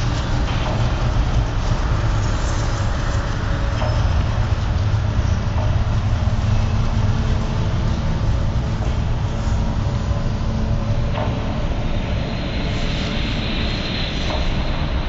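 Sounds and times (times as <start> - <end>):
loud low rumble with rushing: 0.0 - 15.0.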